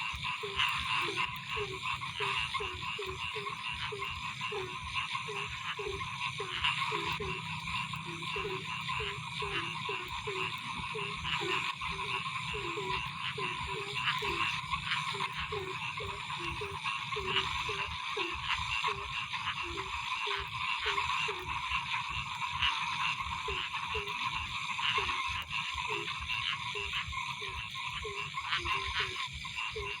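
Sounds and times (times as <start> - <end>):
frogs croaking: 0.0 - 30.0
high-pitched frog chorus: 0.0 - 30.0.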